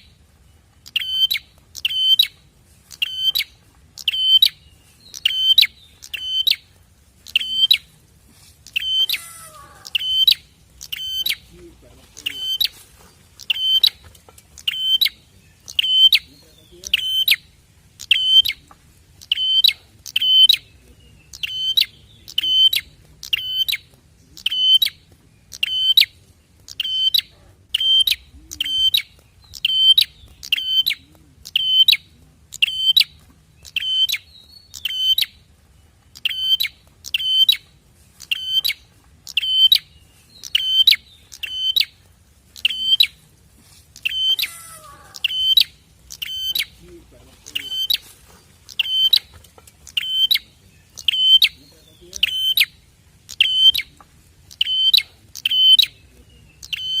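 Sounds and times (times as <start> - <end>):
bird chirping: 0.0 - 57.0
faint low hum: 0.0 - 57.0.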